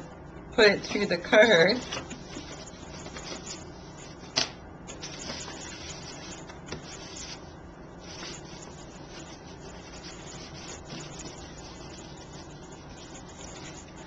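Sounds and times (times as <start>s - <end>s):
paper rustling: 1.7s - 7.4s, 8.0s - 14.0s.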